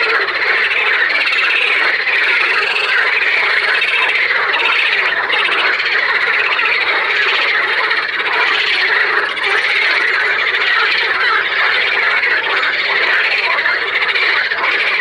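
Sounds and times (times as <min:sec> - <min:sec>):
frogs croaking and trilling: 0:00.0 - 0:15.0.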